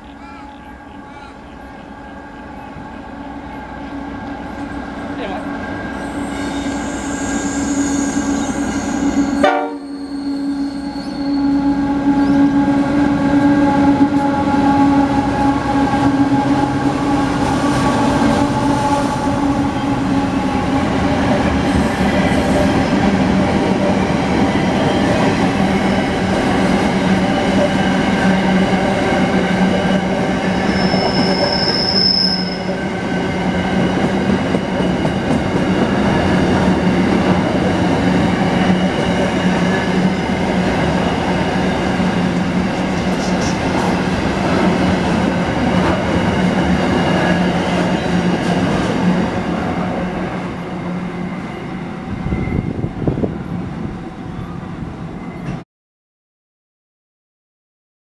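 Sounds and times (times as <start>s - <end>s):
train running past: 0.0s - 55.6s.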